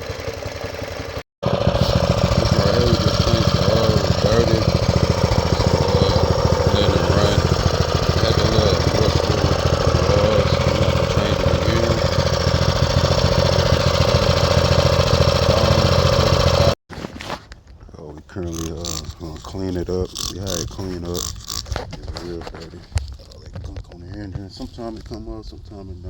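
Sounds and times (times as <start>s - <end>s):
small engine running steadily: 0.0s - 16.8s, 18.5s - 23.9s.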